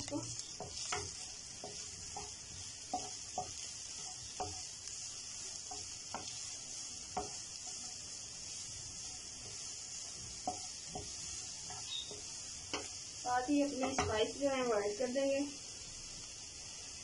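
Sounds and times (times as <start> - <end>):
spatula scraping and tapping pan: 0.0 - 14.4
food sizzling in oil: 0.0 - 17.0.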